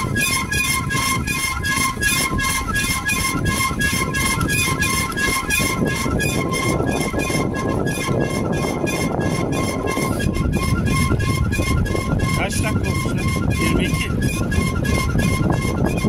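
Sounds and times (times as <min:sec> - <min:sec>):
bicycle squeaking: 0:00.0 - 0:16.0
low riding rumble: 0:00.0 - 0:16.0.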